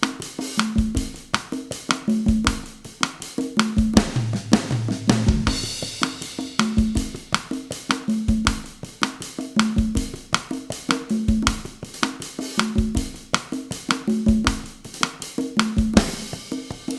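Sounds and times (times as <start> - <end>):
conga tones: 0.0 - 16.9
drum kit bossa nova groove: 0.0 - 16.9.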